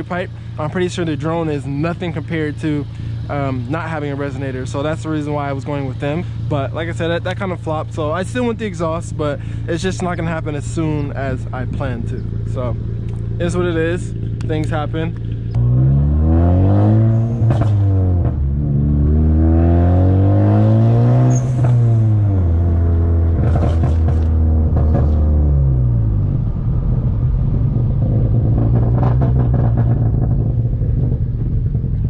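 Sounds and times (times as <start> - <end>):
exhaust crackles and pops: 0.0 - 15.8, 21.4 - 32.0
car engine revving: 0.0 - 32.0.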